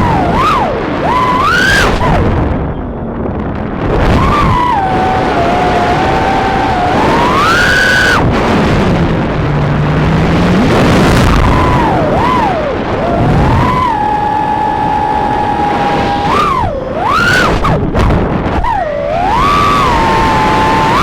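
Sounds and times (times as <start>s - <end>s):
drone motors whining: 0.0s - 21.0s
rush of air noise: 0.0s - 21.0s.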